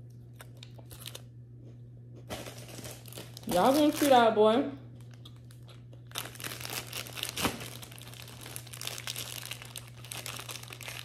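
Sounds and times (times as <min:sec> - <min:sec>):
packaging crinkling: 0:00.4 - 0:01.3, 0:02.2 - 0:04.2, 0:05.0 - 0:11.0.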